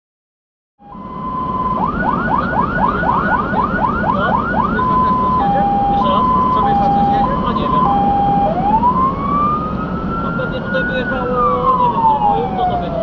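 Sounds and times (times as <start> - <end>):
fire engine siren: 0.8 - 13.0
truck engine and tyres rumbling: 0.8 - 13.0.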